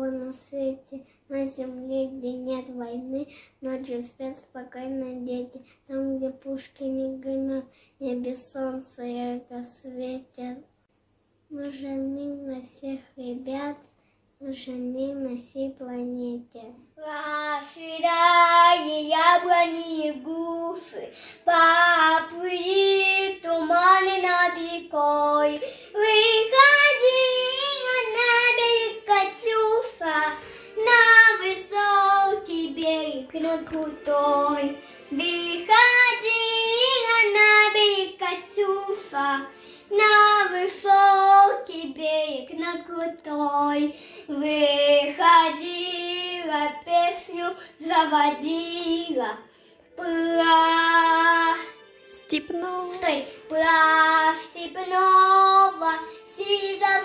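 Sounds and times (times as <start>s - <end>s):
girl singing: 0.0s - 10.7s, 11.5s - 57.0s.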